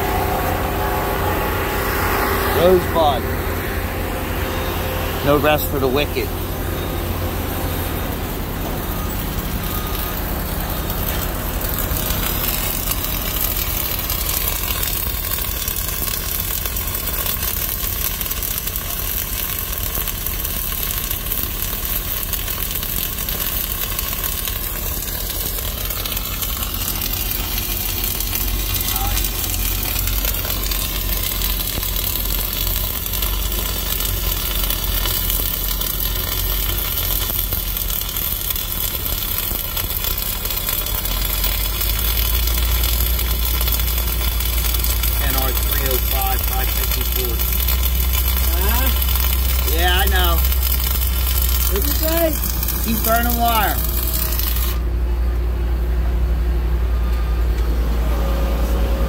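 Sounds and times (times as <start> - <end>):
welding arc crackling: 0.0 - 55.0.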